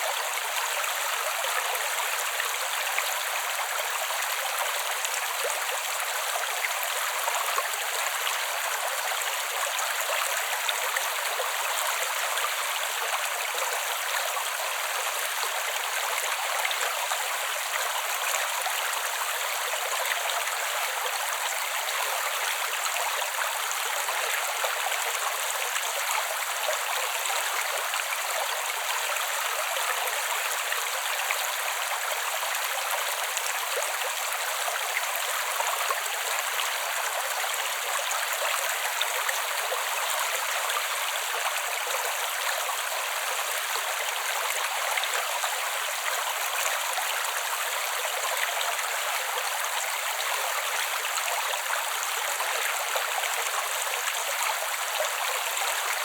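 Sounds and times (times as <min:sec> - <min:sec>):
creek water babbling over stones: 0:00.0 - 0:56.0.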